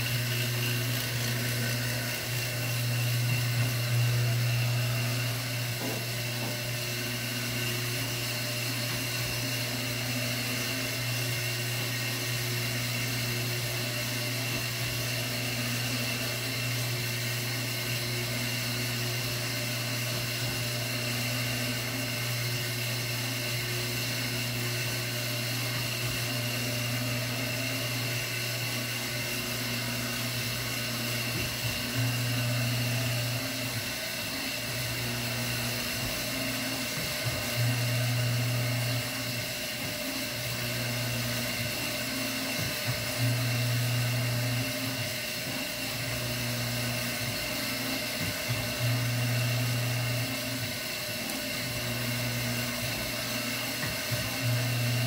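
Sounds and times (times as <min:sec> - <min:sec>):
electric motors humming: 0:00.0 - 0:55.0.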